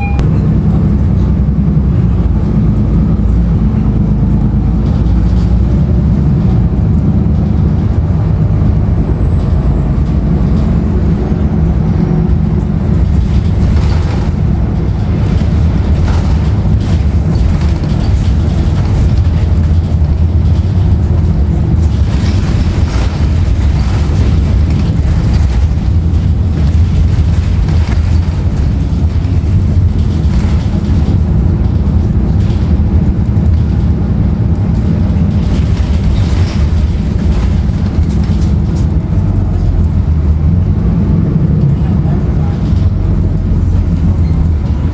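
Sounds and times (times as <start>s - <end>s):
bus diesel engine drone: 0.0s - 44.9s
road rumble: 0.0s - 44.9s
rattles and knocks: 0.1s - 44.9s.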